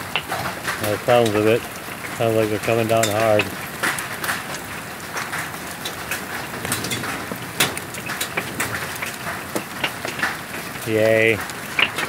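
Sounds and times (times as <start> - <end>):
hailstones falling hard: 0.0 - 12.0.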